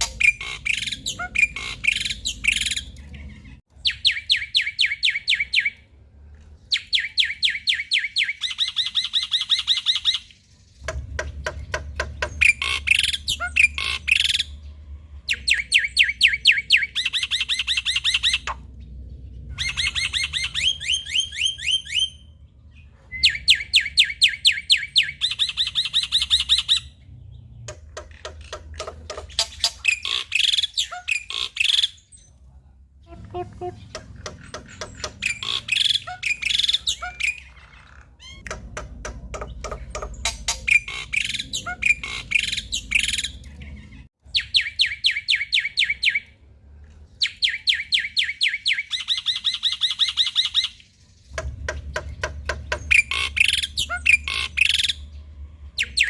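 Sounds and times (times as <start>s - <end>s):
bird chattering song: 0.0s - 5.8s, 6.6s - 32.3s, 33.1s - 46.3s, 47.2s - 56.0s.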